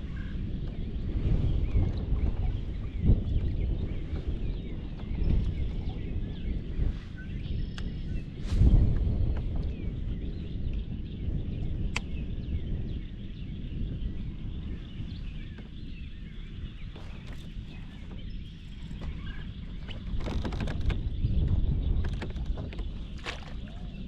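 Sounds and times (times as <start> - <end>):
small birds chirping: 0.0 - 24.0
wind rumble on microphone: 0.0 - 24.0.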